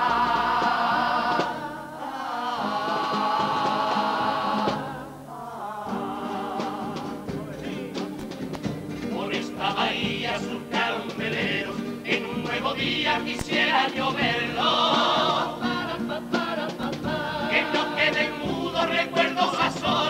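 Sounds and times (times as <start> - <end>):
strummed guitars: 0.0 - 20.0.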